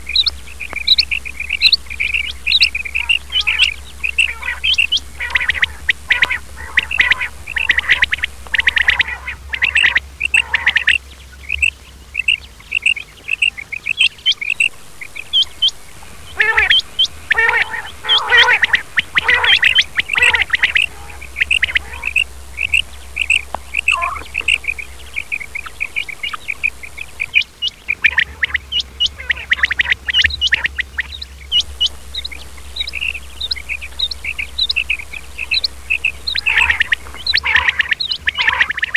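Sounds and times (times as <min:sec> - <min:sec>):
faint low hum: 0:00.0 - 0:38.9
quail chirping: 0:00.0 - 0:38.9.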